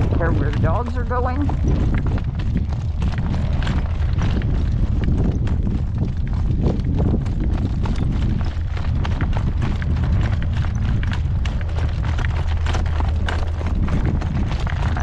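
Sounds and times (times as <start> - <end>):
horse hooves trotting: 0.0 - 15.0
wind rumble on microphone: 0.0 - 15.0.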